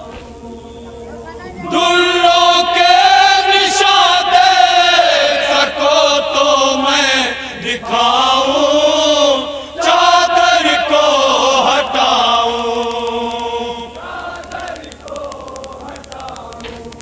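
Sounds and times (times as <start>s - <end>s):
men chanting a lament: 0.0s - 16.8s.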